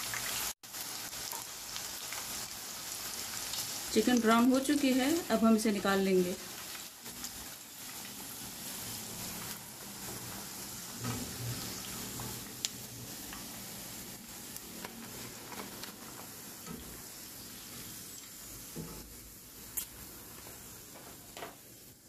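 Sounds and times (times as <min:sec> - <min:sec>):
hot oil sizzling: 0:00.0 - 0:22.0.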